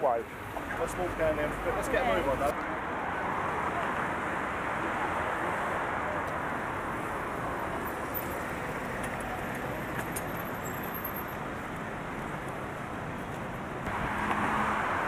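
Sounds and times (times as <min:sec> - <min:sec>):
passing cars and road noise: 0:00.0 - 0:15.0.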